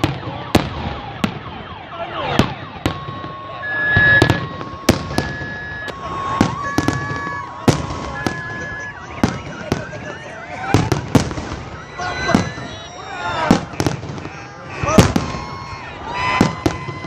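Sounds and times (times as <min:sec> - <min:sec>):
two-tone alarm: 0:00.0 - 0:14.9
fireworks bangs: 0:00.0 - 0:17.0
whistling firework shells: 0:02.3 - 0:17.0.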